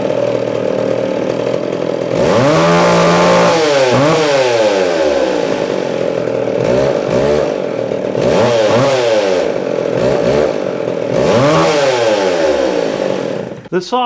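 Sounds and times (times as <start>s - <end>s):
chainsaw engine revving: 0.0s - 13.7s.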